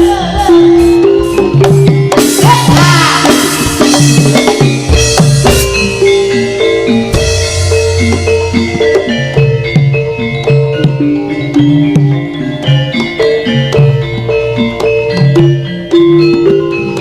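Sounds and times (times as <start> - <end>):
drums beating: 0.0 - 17.0
metal percussion melody: 0.0 - 17.0.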